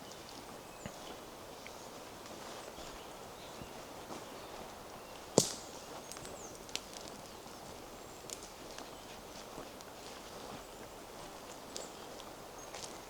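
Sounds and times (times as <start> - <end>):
footsteps on forest path: 0.0 - 13.0.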